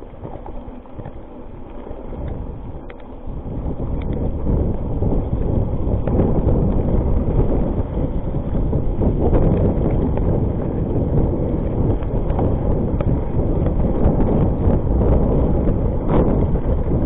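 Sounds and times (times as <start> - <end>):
bike rattles and knocks: 0.0 - 17.0
bike tyre rumble: 0.0 - 17.0
wind buffeting microphone: 0.0 - 17.0.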